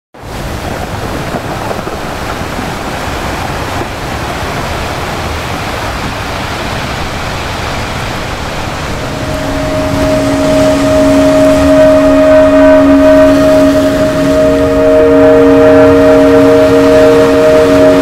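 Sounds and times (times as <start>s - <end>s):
steady rush of water: 0.2s - 18.0s.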